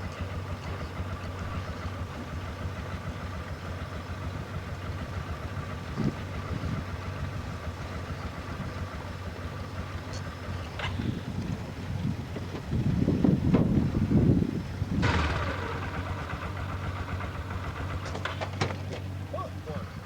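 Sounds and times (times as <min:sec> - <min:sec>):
quad engine idling: 0:00.0 - 0:20.0.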